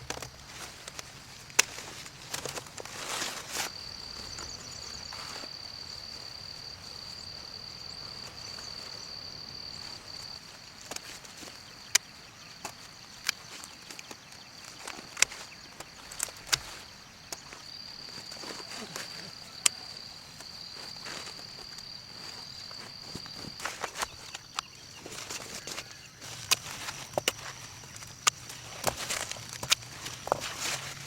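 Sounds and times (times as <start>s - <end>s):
outdoor rustling: 0.0s - 31.0s.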